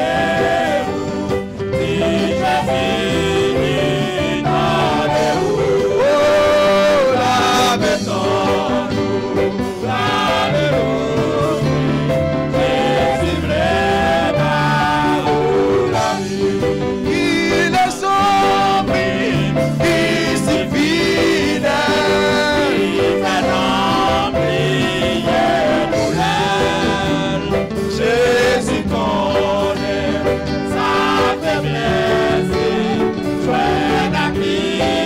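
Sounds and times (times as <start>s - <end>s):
instrumental accompaniment: 0.0s - 35.0s
man singing gospel hymn: 0.0s - 35.0s.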